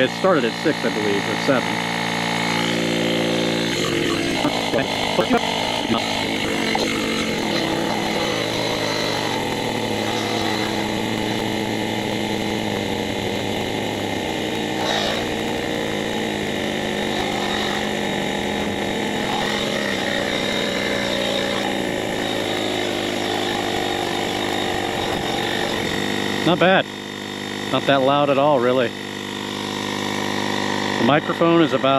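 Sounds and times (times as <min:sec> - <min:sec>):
electric air compressor running: 0:00.0 - 0:31.9.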